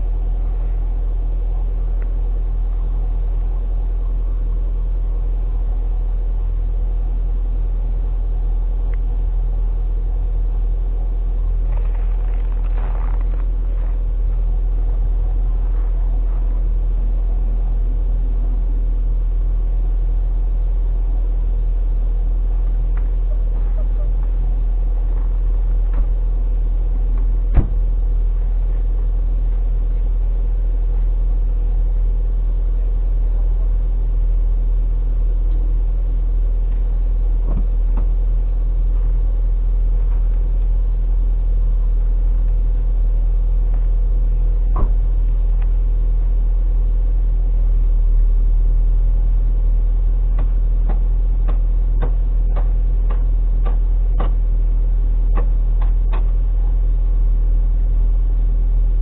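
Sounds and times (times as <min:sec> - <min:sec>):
car exhaust idling: 0:00.0 - 0:59.0.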